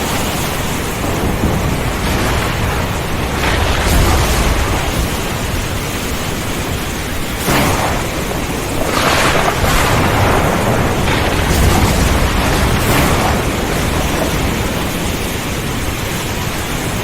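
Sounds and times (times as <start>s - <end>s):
heavy rain pouring: 0.0s - 17.0s
sharp thunder cracks: 0.0s - 17.0s
thunder rumbling: 0.0s - 17.0s.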